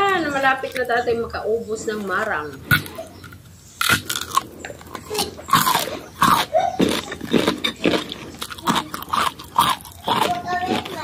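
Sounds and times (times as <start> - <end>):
chewing and mouth smacking: 1.9 - 11.0.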